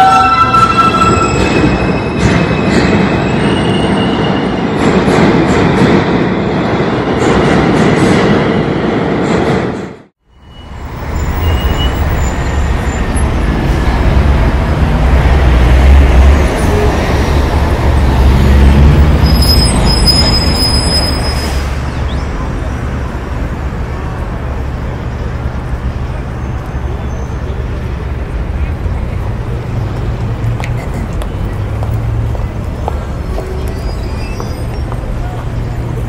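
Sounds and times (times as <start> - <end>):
subway train rumble and rattle: 0.0 - 36.0.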